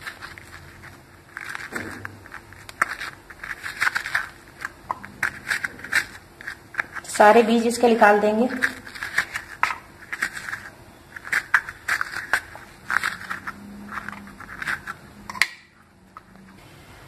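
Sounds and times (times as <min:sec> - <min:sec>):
spoon scraping seeds from gourd: 0:00.0 - 0:15.4.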